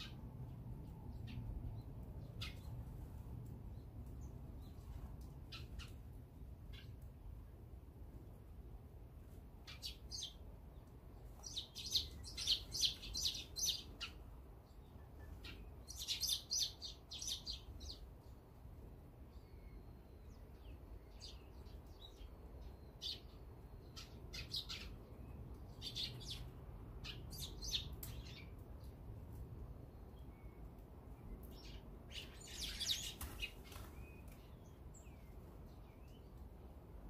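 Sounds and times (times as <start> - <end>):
small songbirds chirping: 0.0 - 7.4, 9.6 - 37.0
faint low background rumble: 0.0 - 37.0.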